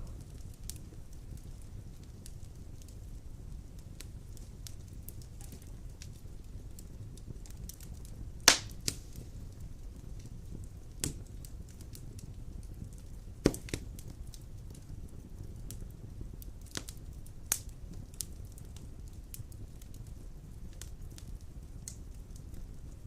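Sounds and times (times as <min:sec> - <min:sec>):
logs burning in fireplace: 0:00.0 - 0:23.0.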